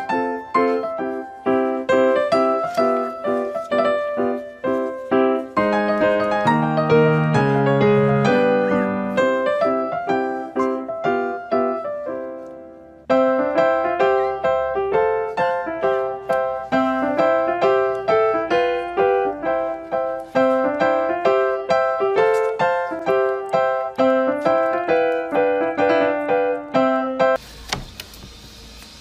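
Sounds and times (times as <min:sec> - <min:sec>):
piano music: 0:00.0 - 0:27.4.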